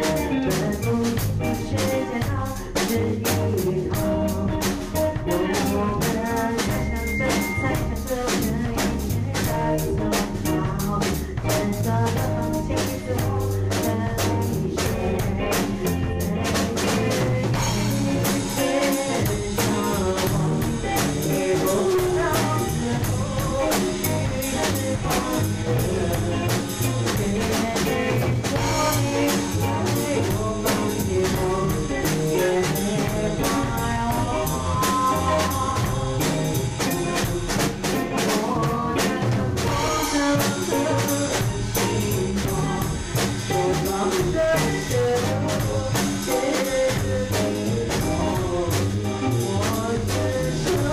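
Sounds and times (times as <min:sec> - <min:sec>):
band playing instrumental: 0:00.0 - 0:50.9
drum kit beat: 0:00.0 - 0:50.9.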